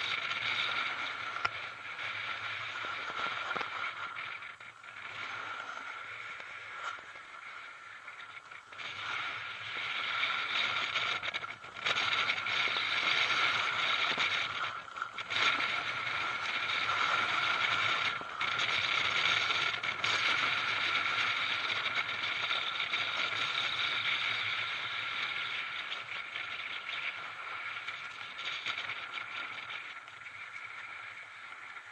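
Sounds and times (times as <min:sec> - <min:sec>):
skis scraping over snow: 0:00.0 - 0:31.9
wind on microphone: 0:00.0 - 0:31.9.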